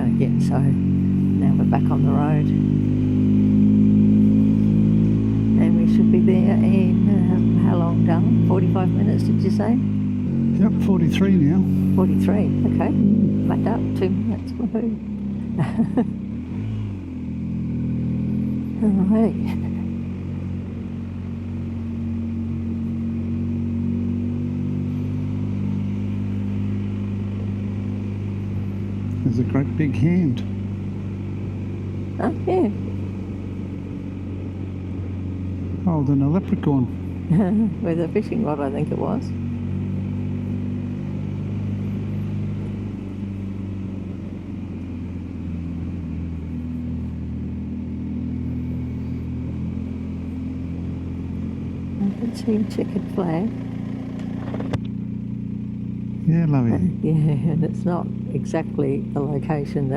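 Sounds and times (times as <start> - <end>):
motorcycle engine running: 0.0 - 59.9
road noise: 0.0 - 59.9.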